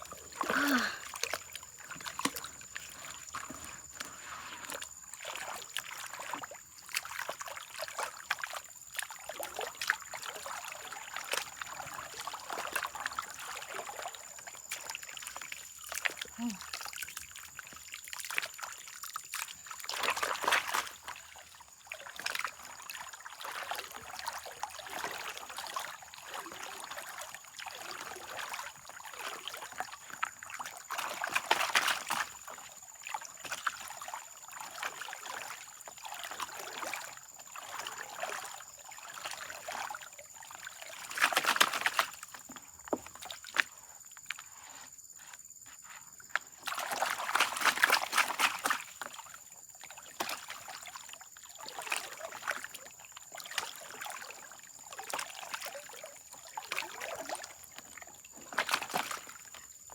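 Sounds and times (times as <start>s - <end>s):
water sloshing and trickling: 0.0s - 59.9s.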